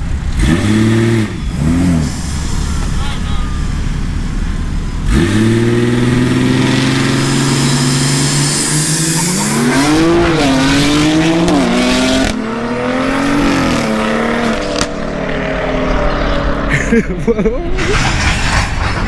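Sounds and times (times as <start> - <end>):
car engine revving at full throttle: 0.0 - 17.1.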